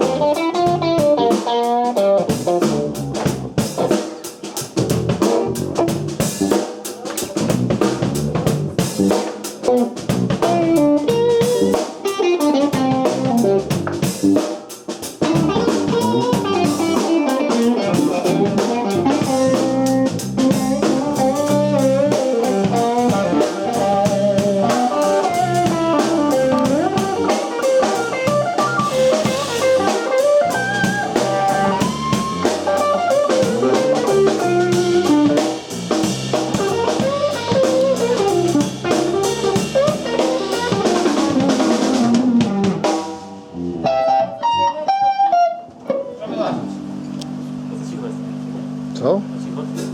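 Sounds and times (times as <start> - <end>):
drum kit: 0.0 - 48.8
guitar melody with bent notes: 0.0 - 48.8.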